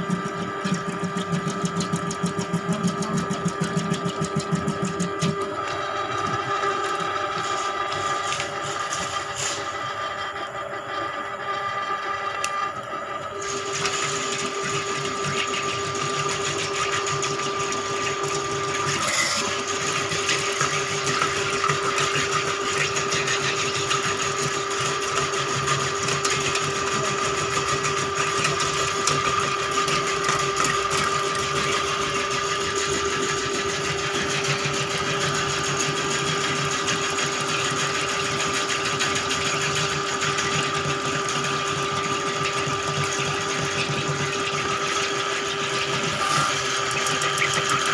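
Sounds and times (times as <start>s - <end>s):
drain-cleaning machine whirring: 0.0s - 47.9s.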